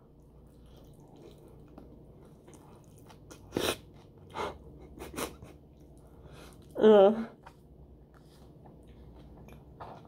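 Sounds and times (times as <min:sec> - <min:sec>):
person chewing food: 0:00.0 - 0:06.8, 0:07.4 - 0:10.0.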